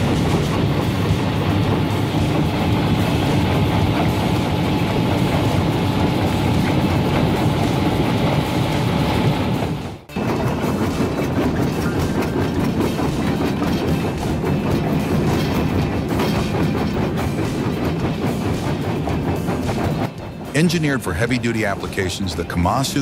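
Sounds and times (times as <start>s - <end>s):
rock crusher running: 0.0s - 23.0s.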